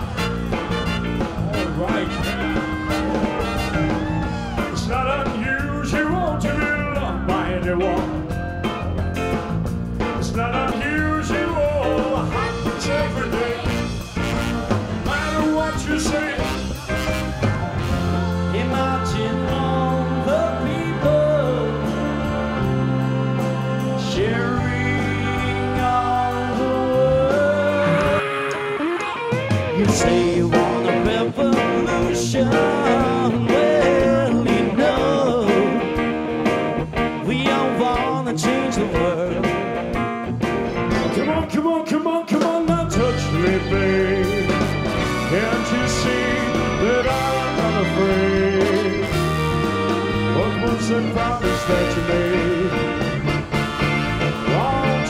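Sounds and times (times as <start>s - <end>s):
live band music: 0.0s - 55.0s
man singing: 1.5s - 8.3s, 10.2s - 17.2s, 17.9s - 23.0s, 23.8s - 28.6s, 29.6s - 36.1s, 37.2s - 39.6s, 41.0s - 55.0s.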